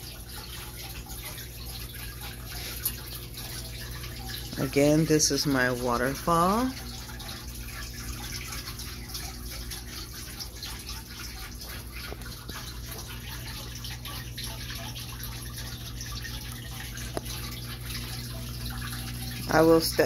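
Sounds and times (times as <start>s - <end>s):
low steady hum: 0.0s - 20.0s
water trickling into basin: 0.0s - 20.0s.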